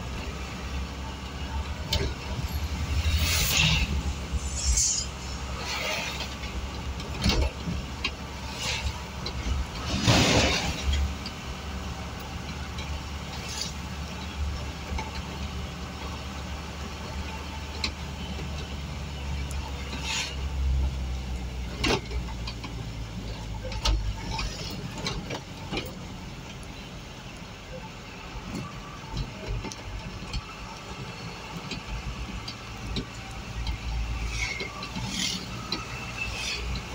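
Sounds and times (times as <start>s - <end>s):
road noise: 0.0s - 36.9s.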